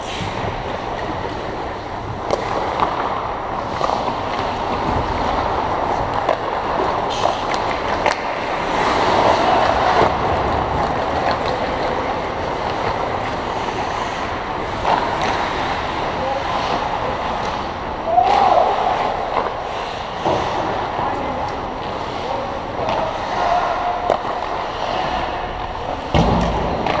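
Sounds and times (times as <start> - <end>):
rushing rink hum: 0.0 - 27.0
skate blades scraping ice: 0.0 - 27.0
sticks and puck clacking: 0.0 - 27.0.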